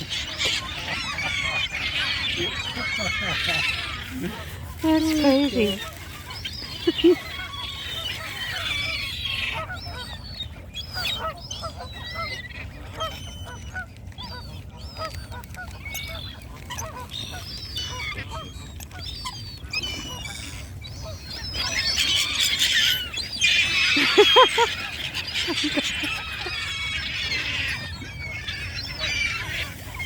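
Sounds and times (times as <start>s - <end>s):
geese and waterbirds honking: 0.0s - 30.0s.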